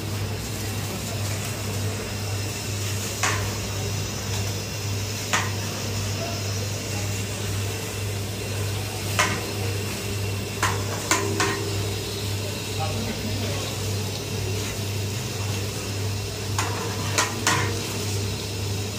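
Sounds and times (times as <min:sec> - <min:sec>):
steady low hum: 0:01.6 - 0:18.9.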